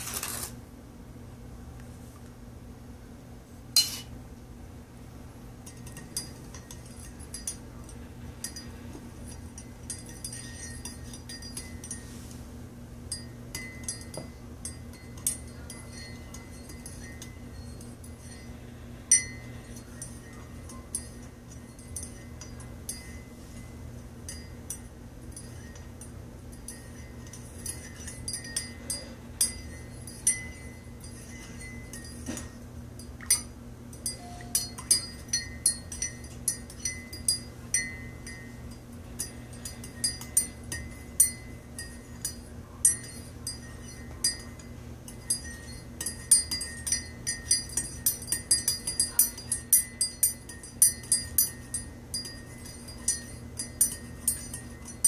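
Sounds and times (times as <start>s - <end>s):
spoon clinking in ceramic mug: 3.8s - 4.1s, 5.6s - 12.2s, 13.1s - 55.0s.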